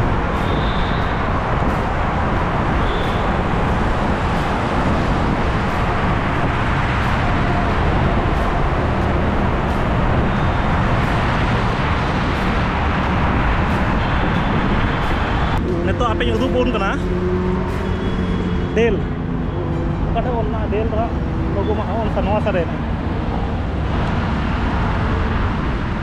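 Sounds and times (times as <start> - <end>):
wind rush on microphone: 0.0 - 20.1, 22.4 - 26.0
road traffic: 0.0 - 26.0.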